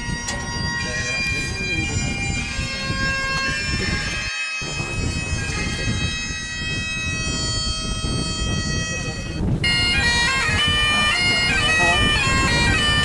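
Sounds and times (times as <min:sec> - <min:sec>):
bagpipe music: 0:00.0 - 0:13.0.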